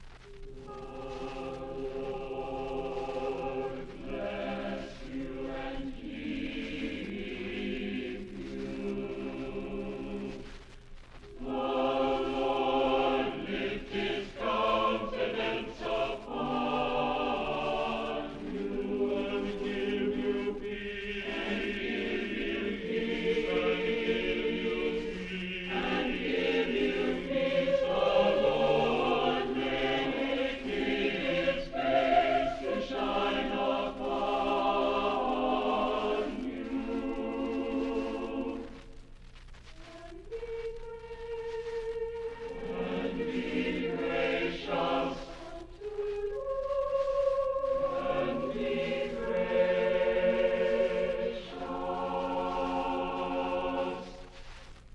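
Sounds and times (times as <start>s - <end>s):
choir singing sustained chords: 0.4s - 10.6s, 11.3s - 39.0s, 40.0s - 54.5s.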